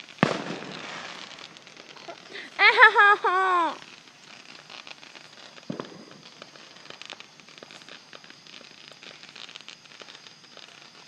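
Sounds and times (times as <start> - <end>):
fireworks crackling pops: 0.0 - 11.0.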